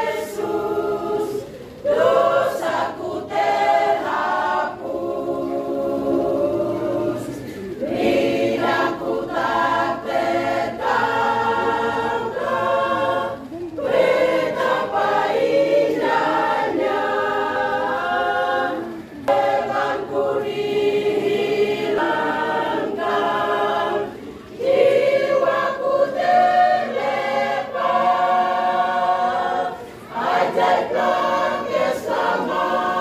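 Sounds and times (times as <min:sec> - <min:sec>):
church choir singing: 0:00.0 - 0:33.0.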